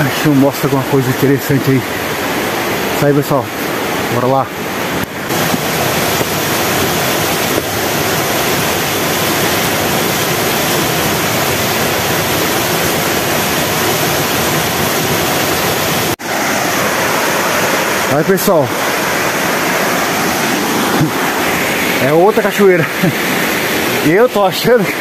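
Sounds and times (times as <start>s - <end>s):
rocky stream and waterfall rushing: 0.0s - 25.0s.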